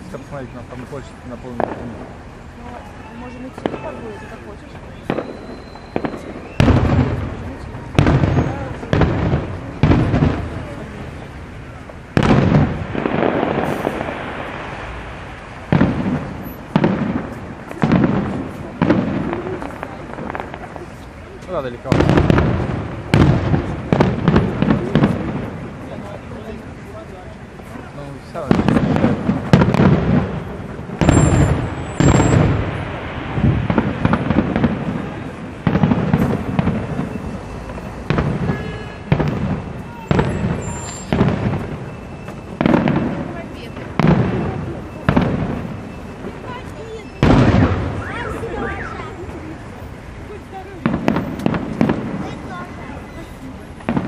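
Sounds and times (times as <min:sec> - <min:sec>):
fireworks bursting with booms: 0:00.0 - 0:54.0.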